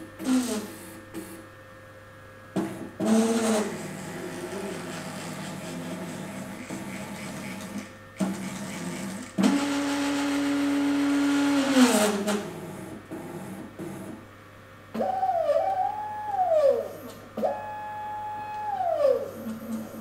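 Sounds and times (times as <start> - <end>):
robot arm motor whine: 3.0 - 14.2, 15.0 - 20.0.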